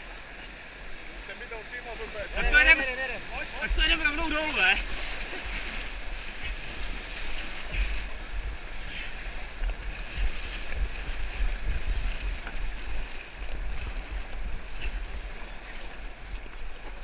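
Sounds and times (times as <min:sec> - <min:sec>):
river rapids rushing: 0:00.0 - 0:17.0
wind buffeting microphone: 0:02.2 - 0:17.0.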